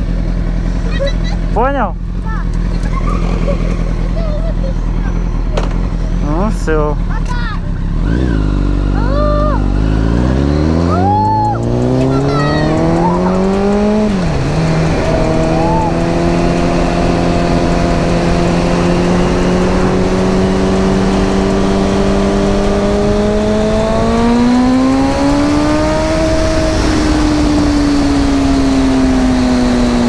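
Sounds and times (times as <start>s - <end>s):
motorcycle engine revving: 0.0s - 30.0s
wind and road noise: 0.0s - 30.0s.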